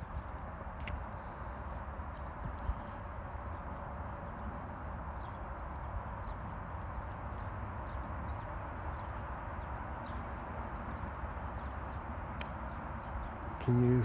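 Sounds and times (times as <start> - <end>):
distant traffic rumble: 0.0 - 14.0.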